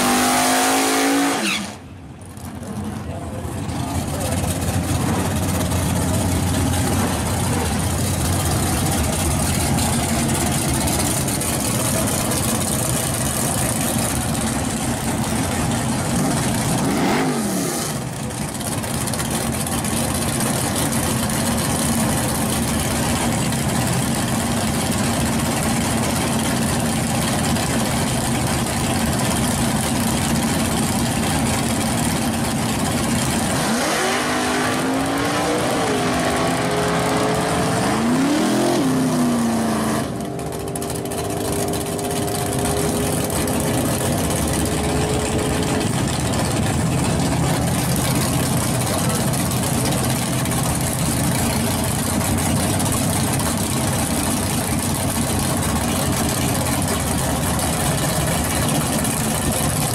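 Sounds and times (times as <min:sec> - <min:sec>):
drag car engines revving: 0:00.0 - 0:59.9.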